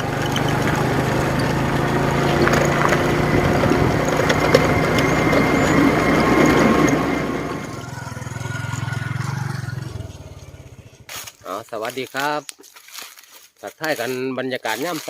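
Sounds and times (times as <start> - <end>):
vehicle engine humming and rattling: 0.0 - 13.2.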